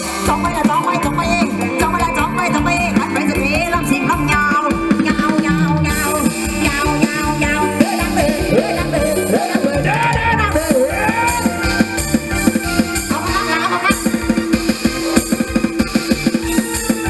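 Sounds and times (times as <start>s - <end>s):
amplified band music with drums: 0.0s - 17.0s.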